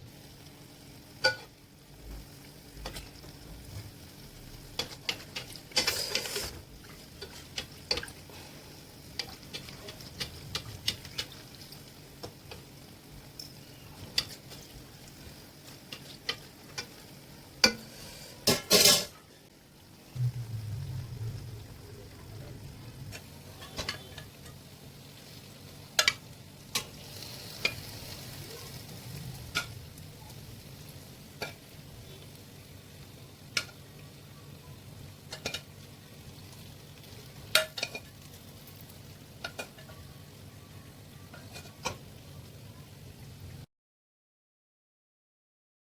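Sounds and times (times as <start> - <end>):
food sizzling in hot oil: 0.0 - 43.7.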